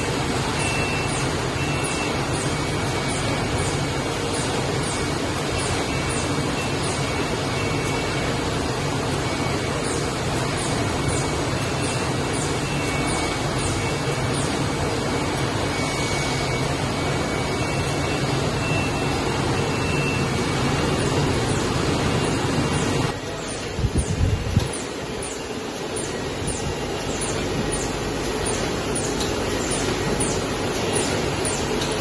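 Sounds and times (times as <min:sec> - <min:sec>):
machine drone and rumble: 0:00.0 - 0:32.0.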